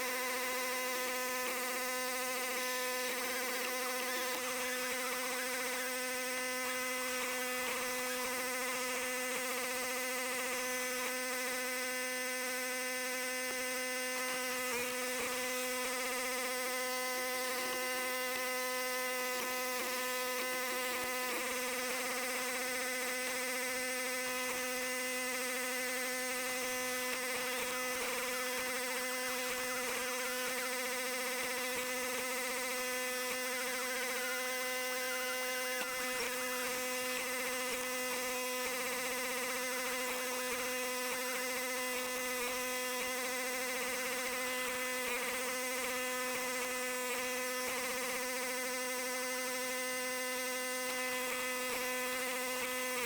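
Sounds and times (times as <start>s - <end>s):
steady motor whine: 0.0s - 53.0s.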